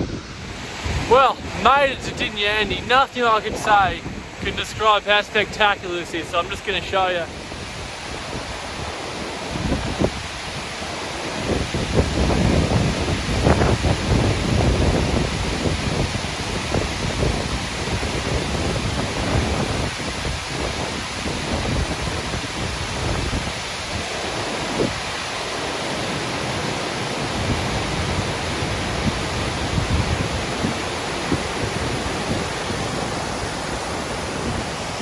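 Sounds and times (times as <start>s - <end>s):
wind buffeting microphone: 0.0s - 5.0s, 7.2s - 35.0s
waterfall rushing: 0.0s - 35.0s.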